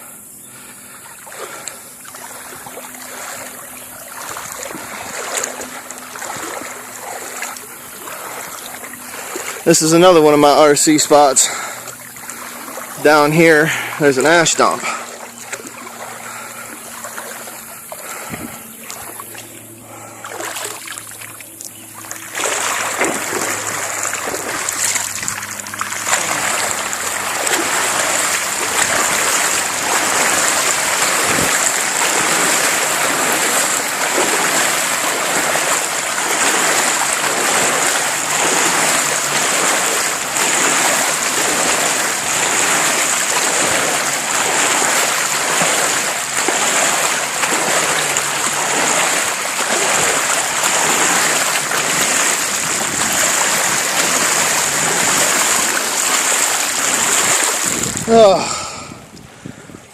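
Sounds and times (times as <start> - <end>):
bike tyres splashing through water: 0.6 - 58.7.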